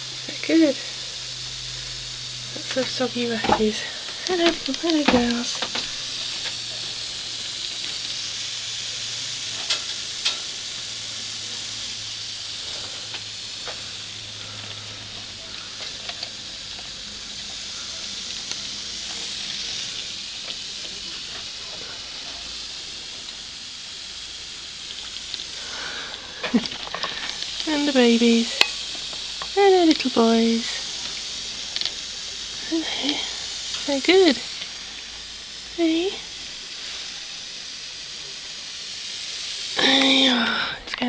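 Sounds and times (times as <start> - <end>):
sharp ticks: 0.0 - 38.1
water mist hissing from sprayer: 0.0 - 41.0.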